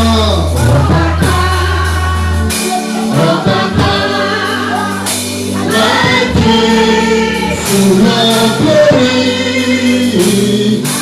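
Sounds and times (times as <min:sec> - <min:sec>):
gospel choir singing: 0:00.0 - 0:11.0
keyboard and bass accompaniment: 0:00.0 - 0:11.0.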